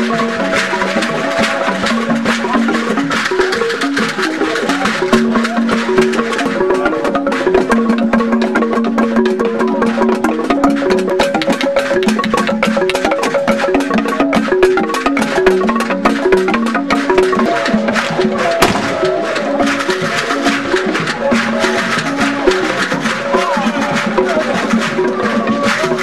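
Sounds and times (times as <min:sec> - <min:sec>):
fast hand drums and wood strokes: 0:00.0 - 0:26.0.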